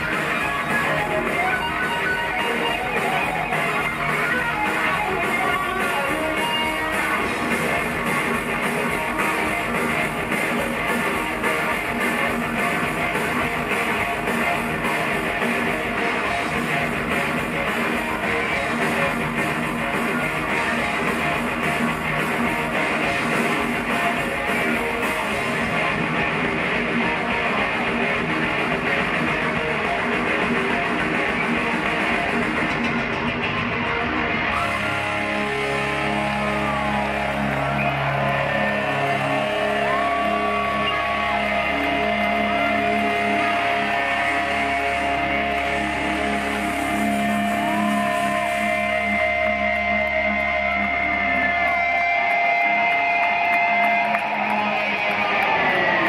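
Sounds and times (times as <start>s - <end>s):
drum kit: 0.0s - 50.5s
distorted electric guitars: 0.0s - 56.0s.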